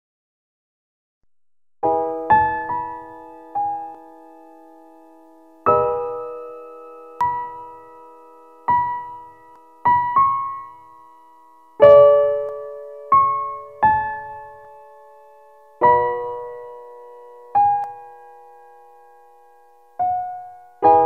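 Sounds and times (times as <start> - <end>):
soft piano music: 1.8 - 21.0.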